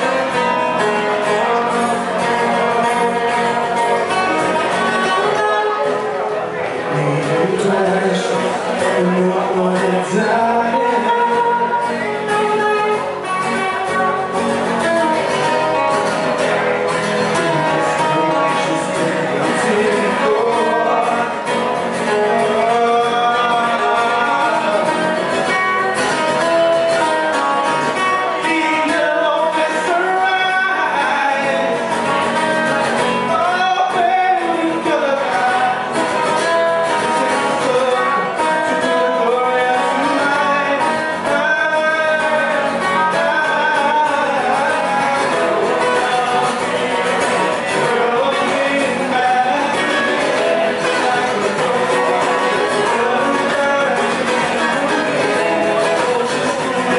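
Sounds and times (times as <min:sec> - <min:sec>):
man singing: 0:00.0 - 0:56.9
strummed guitar chords: 0:00.0 - 0:56.9.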